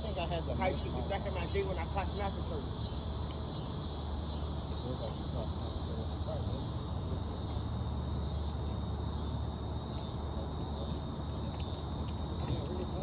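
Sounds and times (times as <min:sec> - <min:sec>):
insects calling in pulses: 0:00.0 - 0:13.0.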